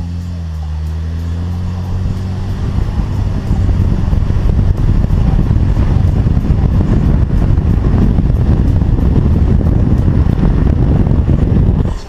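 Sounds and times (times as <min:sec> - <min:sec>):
car engine rumble: 0:00.0 - 0:12.0
road noise: 0:00.0 - 0:12.0
wind buffeting microphone: 0:00.0 - 0:12.0.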